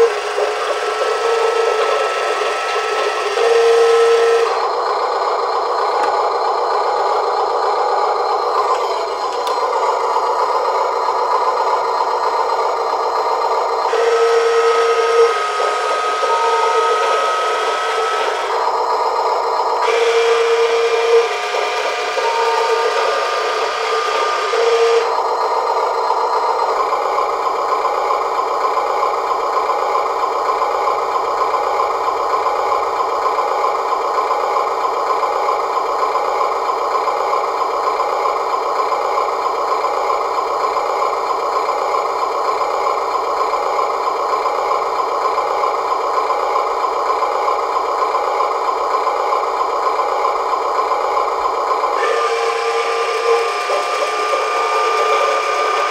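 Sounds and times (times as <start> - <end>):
toy truck mechanical hum: 0.0 - 55.9.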